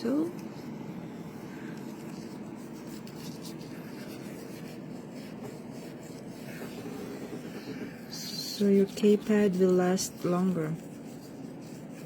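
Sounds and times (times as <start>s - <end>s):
brush rubbing over keyboard keys: 0.0s - 12.0s.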